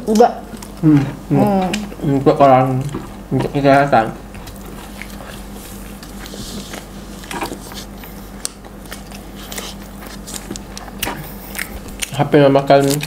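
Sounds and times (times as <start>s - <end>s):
chewing and biting food: 0.1s - 13.0s.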